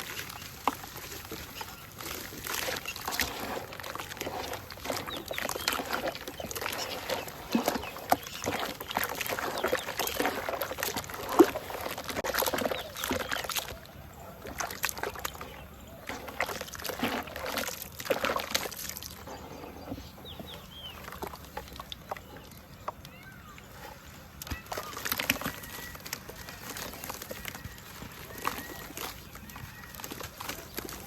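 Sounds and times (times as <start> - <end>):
dirt crumbling and crackling: 0.0 - 31.0
water splashing and sloshing: 0.0 - 31.0.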